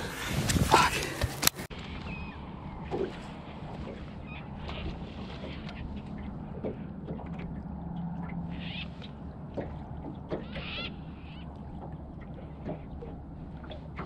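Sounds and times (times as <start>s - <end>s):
water lapping against hull: 0.0s - 14.0s
low steady hum: 1.7s - 14.0s.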